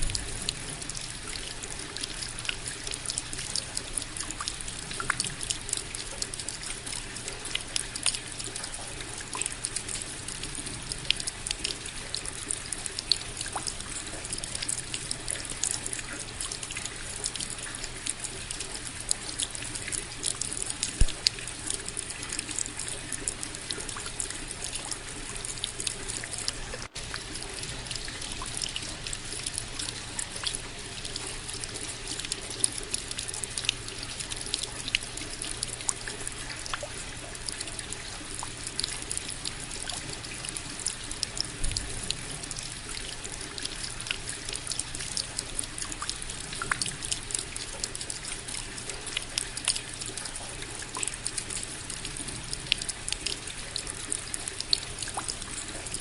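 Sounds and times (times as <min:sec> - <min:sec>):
raindrops ticking: 0:00.0 - 0:56.0
steady rain: 0:00.0 - 0:56.0.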